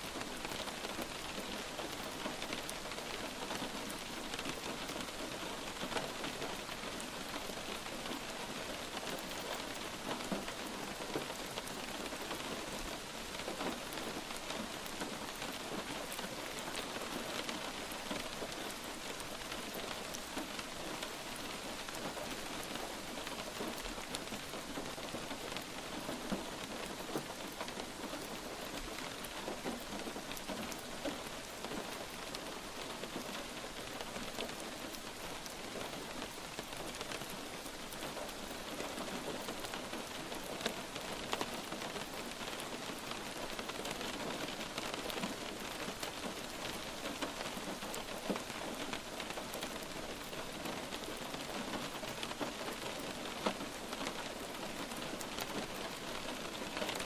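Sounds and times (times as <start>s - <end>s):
light rain falling: 0.0s - 57.0s
raindrop ticks: 0.1s - 57.0s.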